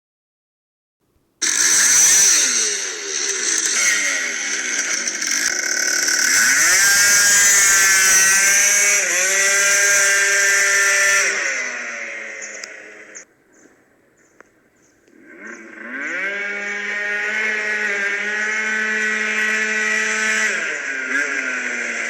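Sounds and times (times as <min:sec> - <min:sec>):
scooter engine revving: 0:01.4 - 0:13.3, 0:15.1 - 0:22.0.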